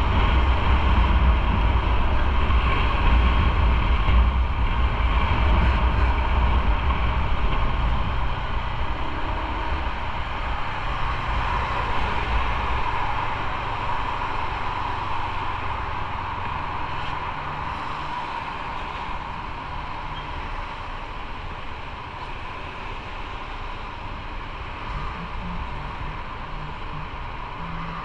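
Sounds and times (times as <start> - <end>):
motorcycle engine low drone: 0.0 - 28.0
wind rush over microphone: 0.0 - 28.0.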